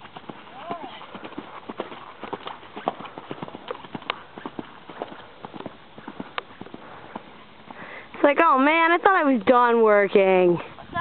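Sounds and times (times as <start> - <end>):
horse hoofbeats on dirt: 0.0 - 11.0.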